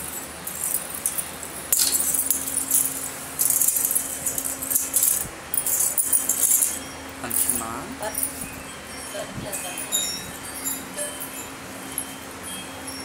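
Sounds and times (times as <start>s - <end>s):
bangles and anklets jingling: 0.0s - 13.0s.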